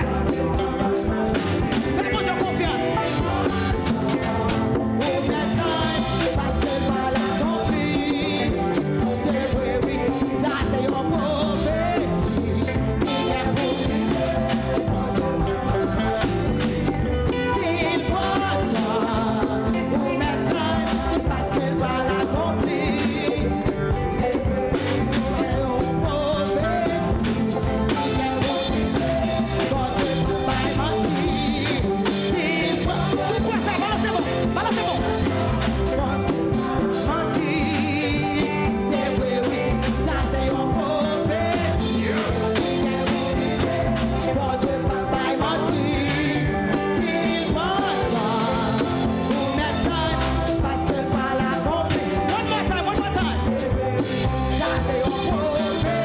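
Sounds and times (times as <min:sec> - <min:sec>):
drums: 0:00.0 - 0:56.0
person singing: 0:00.0 - 0:56.0
worship band playing: 0:00.0 - 0:56.0.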